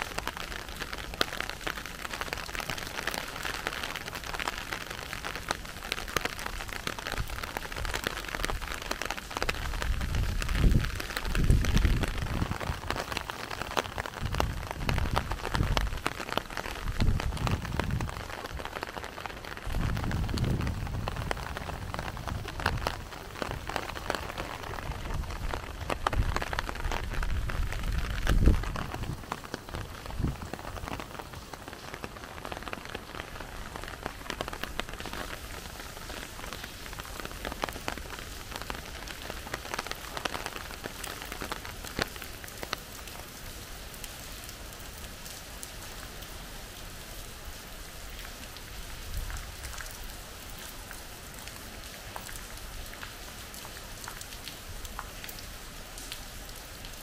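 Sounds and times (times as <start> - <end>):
raindrops tapping close by: 0.0 - 57.0
steady rain falling: 0.0 - 57.0.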